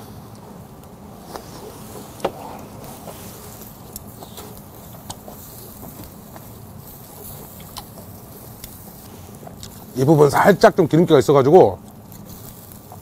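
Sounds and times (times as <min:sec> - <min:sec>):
meat sizzling on a grill: 0:01.2 - 0:13.0.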